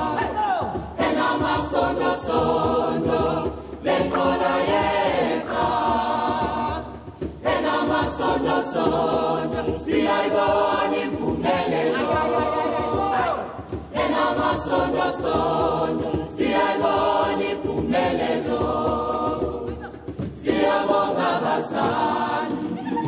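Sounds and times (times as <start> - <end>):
djembe drum: 0.0 - 23.0
large choir singing: 0.0 - 23.0.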